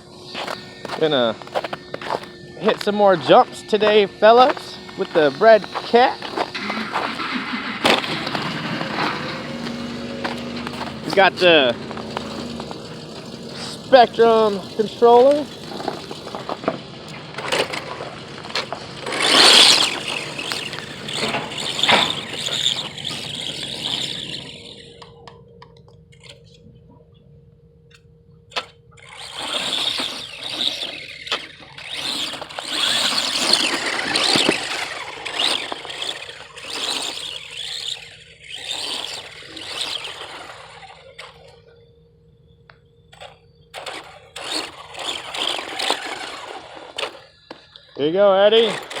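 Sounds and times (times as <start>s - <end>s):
electric toy truck motor whining: 0.0s - 26.4s, 28.5s - 49.0s
tyres scrabbling over ground: 0.0s - 26.5s, 28.5s - 41.7s, 43.1s - 49.0s.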